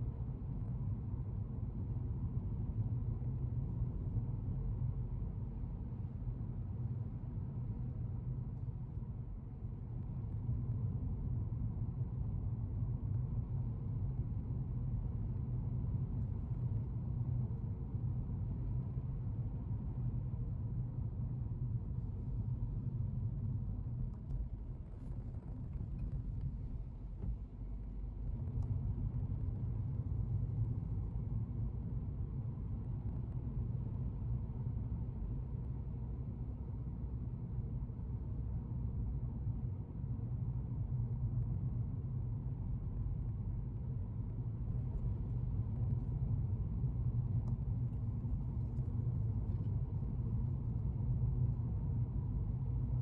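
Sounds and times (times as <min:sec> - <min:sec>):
car engine and tyres rumbling: 0:00.1 - 0:53.0.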